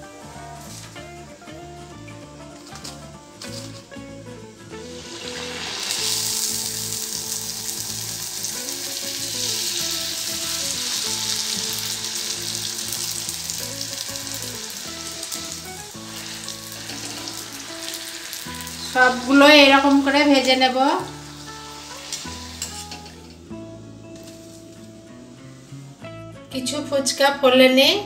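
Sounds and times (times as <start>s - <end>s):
hot oil sizzling: 0.0s - 26.2s
background music: 0.0s - 28.0s.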